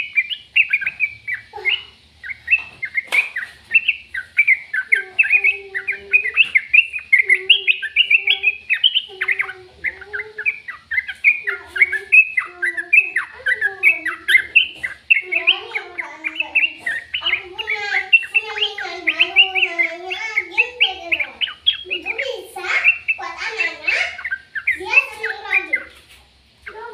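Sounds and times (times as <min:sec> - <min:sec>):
bird chirping and twittering: 0:00.0 - 0:26.9.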